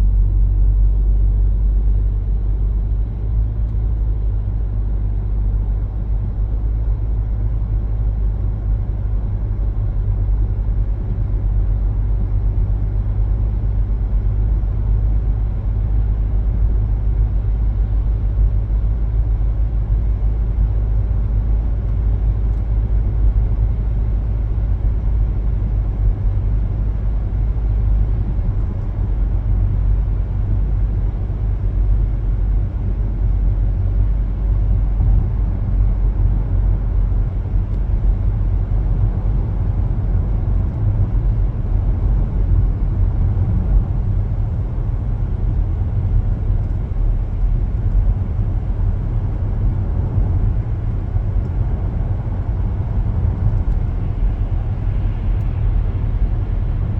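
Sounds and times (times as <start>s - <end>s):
car road rumble from inside: 0.0s - 56.9s.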